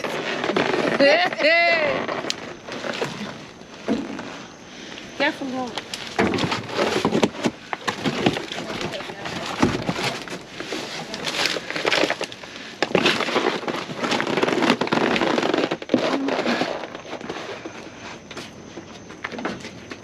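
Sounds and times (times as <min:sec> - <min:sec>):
rustling of bags and boxes: 0:00.0 - 0:20.0.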